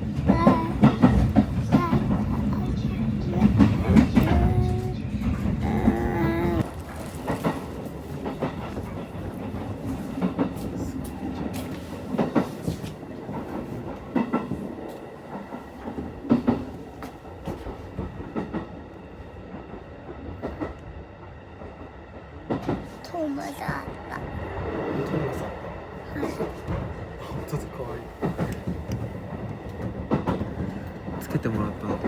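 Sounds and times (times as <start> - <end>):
train rumbling on rails: 0.0 - 32.0.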